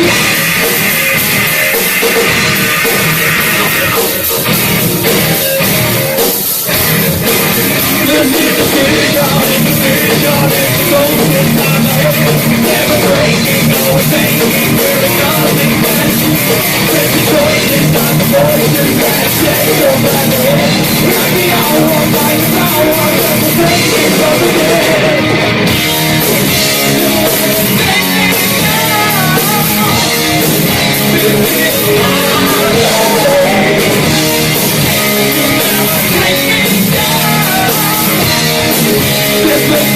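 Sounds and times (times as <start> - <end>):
distorted guitars: 0.0 - 39.9
drums: 0.0 - 39.9
live metal band playing: 0.0 - 39.9.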